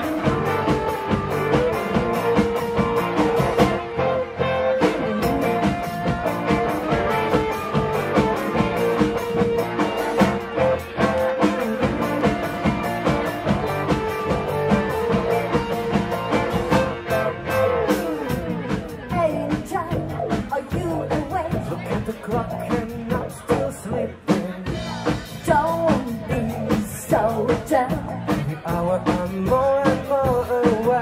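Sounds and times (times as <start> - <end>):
drum kit beat: 0.0 - 31.0
electric guitar: 0.0 - 31.0
live pop-rock band playing: 0.0 - 31.0.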